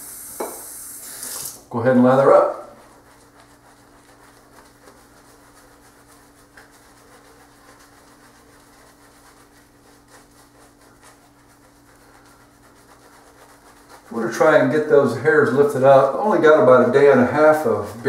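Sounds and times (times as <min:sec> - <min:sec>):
shaving brush scratchy rubbing: 0:01.2 - 0:18.0.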